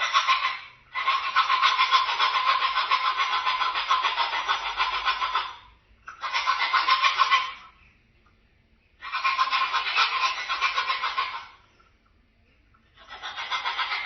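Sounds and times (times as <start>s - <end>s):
cockatoo harsh rattling calls: 0.0s - 7.9s, 9.0s - 11.8s, 13.0s - 14.0s.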